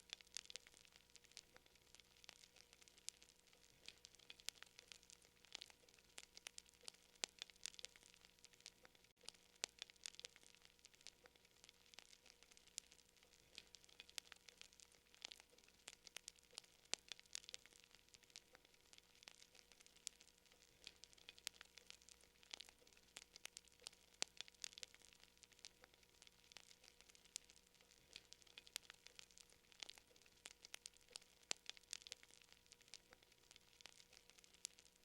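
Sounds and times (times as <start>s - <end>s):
soft hiss: 0.0s - 35.0s
wood fire crackling and popping: 0.0s - 35.0s.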